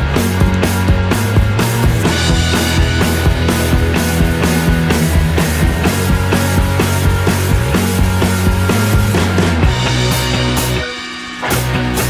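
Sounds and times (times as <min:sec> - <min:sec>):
fast drum beat: 0:00.0 - 0:12.0
sustained bass line: 0:00.0 - 0:12.0.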